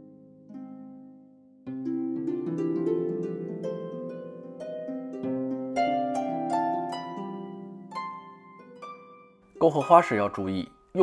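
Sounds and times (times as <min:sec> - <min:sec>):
plucked string instrument melody: 0:00.0 - 0:11.0.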